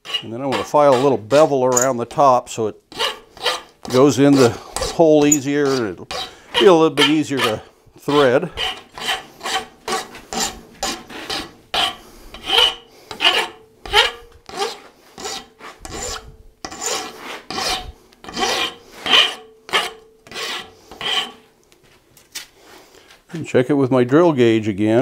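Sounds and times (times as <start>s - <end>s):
hand file rasping on steel: 0.0s - 2.1s, 2.9s - 21.5s.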